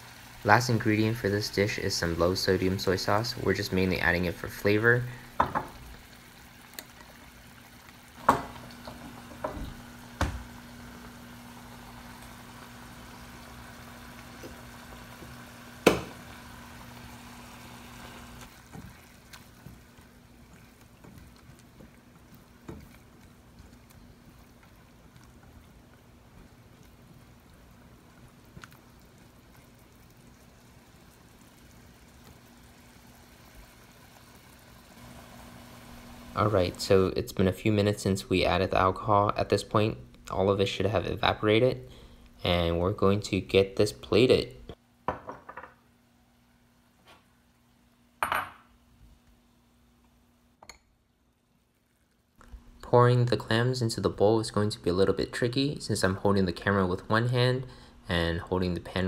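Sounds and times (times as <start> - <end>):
faint bubbling of simmering: 0.0 - 45.2, 45.8 - 59.0.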